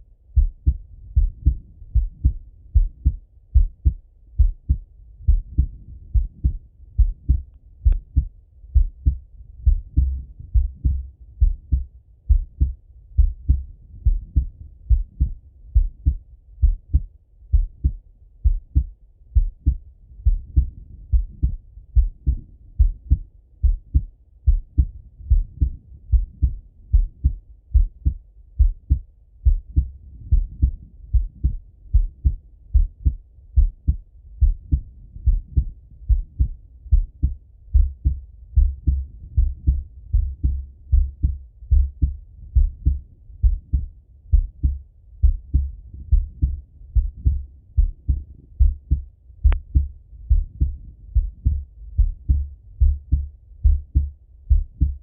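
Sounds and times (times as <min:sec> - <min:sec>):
heartbeat through stethoscope: 0:00.3 - 0:55.0.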